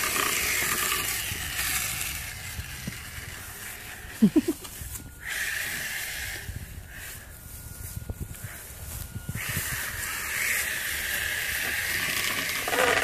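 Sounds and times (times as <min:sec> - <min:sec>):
toy truck electric motor whirring: 0:00.0 - 0:07.3, 0:08.5 - 0:13.0.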